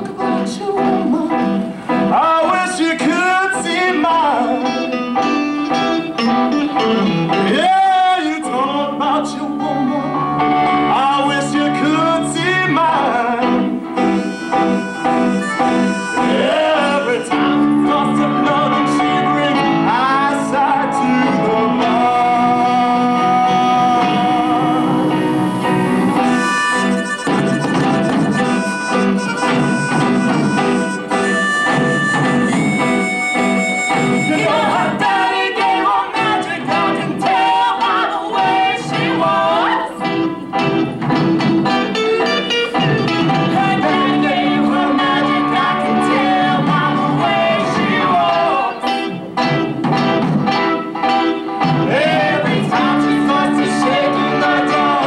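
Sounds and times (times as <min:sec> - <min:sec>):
man singing bluesy rock: 0:00.0 - 0:26.4, 0:31.1 - 0:39.5, 0:42.2 - 0:49.1, 0:51.7 - 0:55.0
live band playing: 0:00.0 - 0:55.0.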